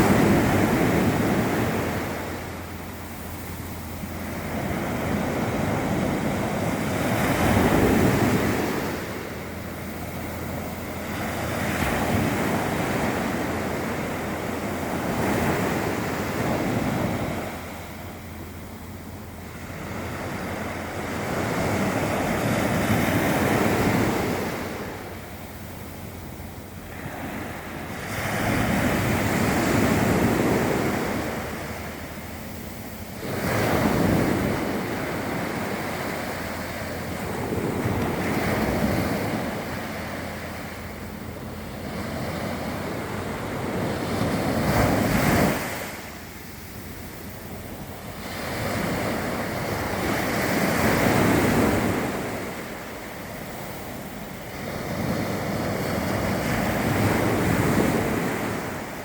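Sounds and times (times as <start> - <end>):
sea waves breaking on shore: 0.0 - 59.0
wind buffeting microphone: 0.0 - 59.0.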